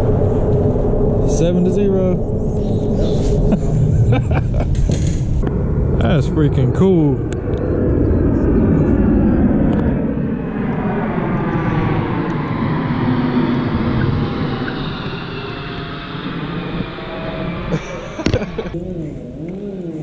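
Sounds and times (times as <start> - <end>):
jet aircraft flying overhead: 0.0 - 20.0.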